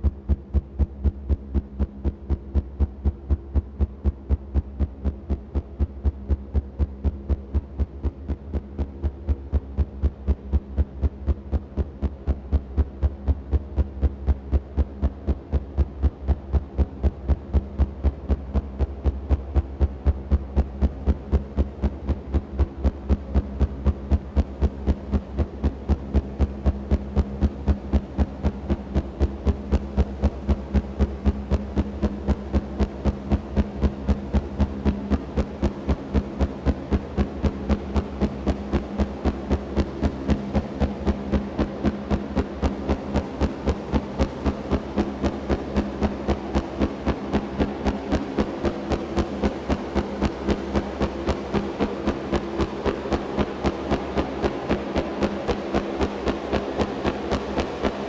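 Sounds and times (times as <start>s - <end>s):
turbine hum: 0.0s - 58.0s.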